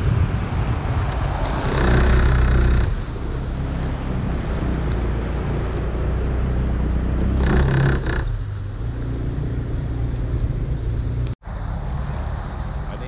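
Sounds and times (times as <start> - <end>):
water and rain hissing: 0.0 - 13.0
water rush: 0.0 - 13.0
vehicle engine running: 0.7 - 13.0.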